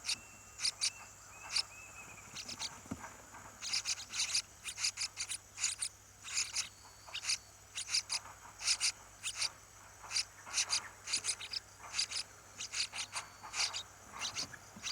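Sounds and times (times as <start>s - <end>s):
insects chirping raspy bursts: 0.0s - 14.9s.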